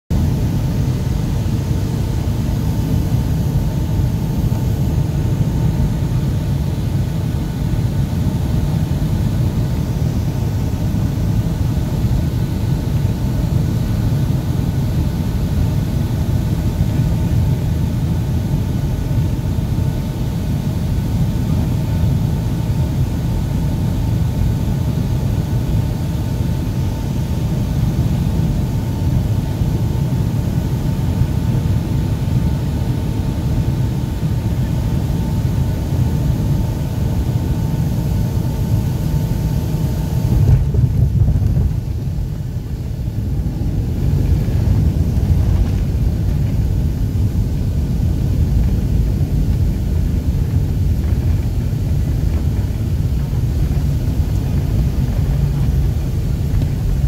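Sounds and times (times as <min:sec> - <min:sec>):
faint steady hum: 0:00.1 - 0:57.0
jet engine and airflow rumble: 0:00.1 - 0:57.0.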